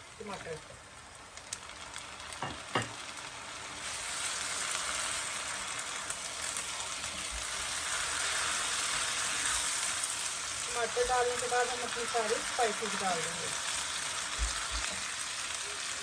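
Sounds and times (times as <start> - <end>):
tomatoes sizzling in hot oil: 0.0 - 16.0.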